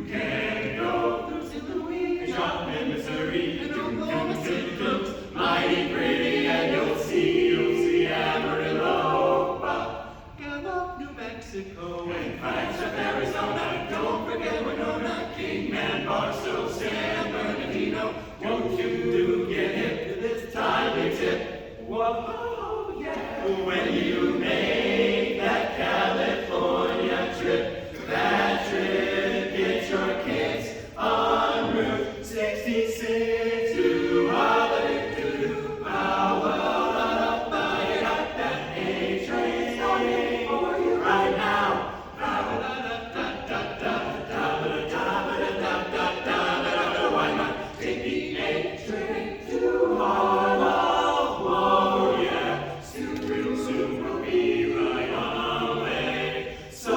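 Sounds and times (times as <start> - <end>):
choir singing in close harmony: 0.0 - 56.9.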